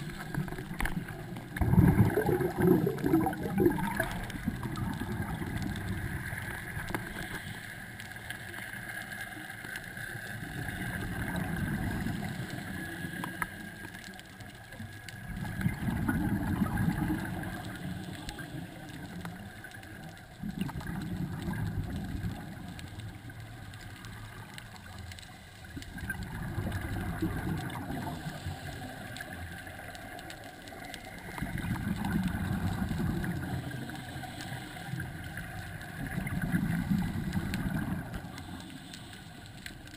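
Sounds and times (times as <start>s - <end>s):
bubbles rumbling and gurgling: 0.0s - 7.6s, 8.2s - 39.9s.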